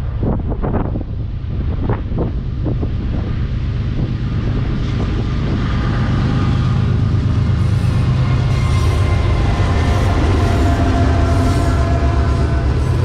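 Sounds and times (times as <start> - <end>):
wind buffeting microphone: 0.0 - 13.0
locomotives rumbling: 2.5 - 13.0.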